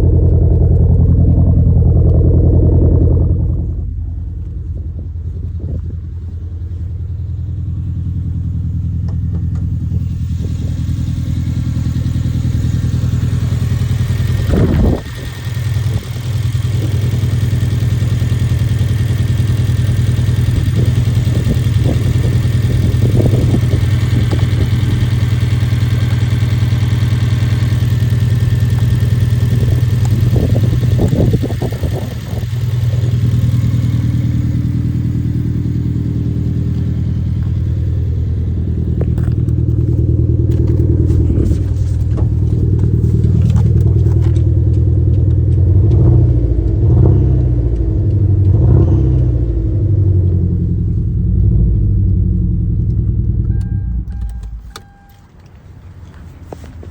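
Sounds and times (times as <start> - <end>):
car engine misfiring: 0.0 - 56.9.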